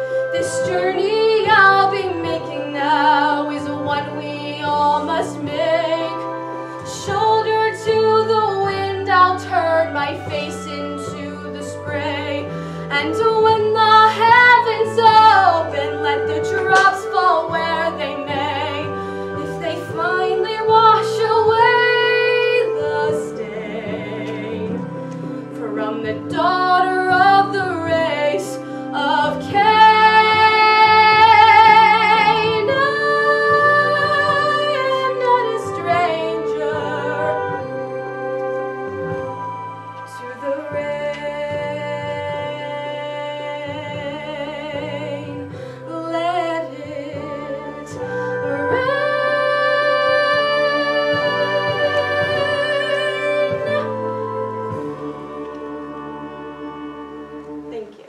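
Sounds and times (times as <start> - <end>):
woman singing a ballad: 0.0 - 38.3, 40.0 - 58.0
instrumental accompaniment: 0.0 - 58.0.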